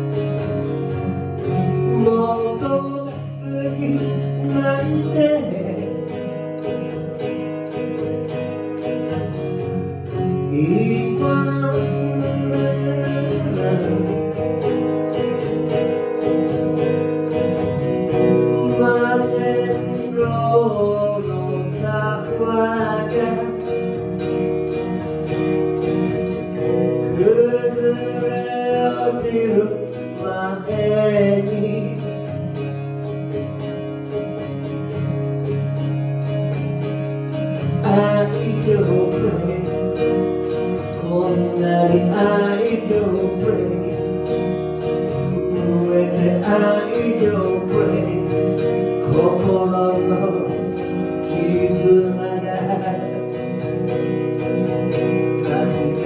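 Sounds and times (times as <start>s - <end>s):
acoustic guitar strumming: 0.0s - 56.0s
man singing: 1.4s - 24.4s, 25.5s - 32.9s, 37.4s - 56.0s.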